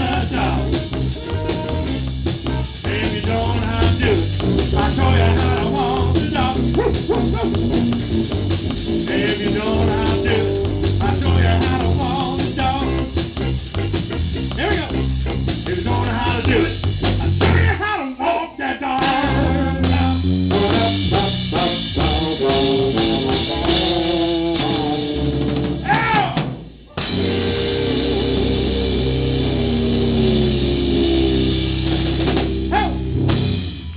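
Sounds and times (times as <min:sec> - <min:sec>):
electric guitar playing blues rock: 0:00.0 - 0:17.7, 0:19.0 - 0:25.8, 0:27.0 - 0:33.9
drum kit: 0:00.0 - 0:17.9, 0:18.9 - 0:33.9.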